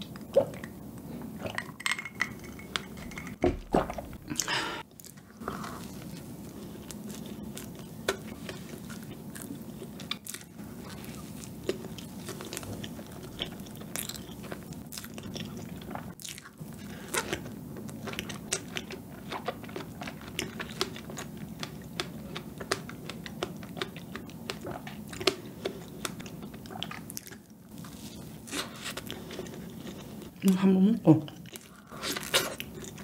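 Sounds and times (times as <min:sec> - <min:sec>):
cake and strawberries being chewed: 0:00.0 - 0:30.6, 0:31.2 - 0:33.0
low steady hum: 0:00.0 - 0:33.0.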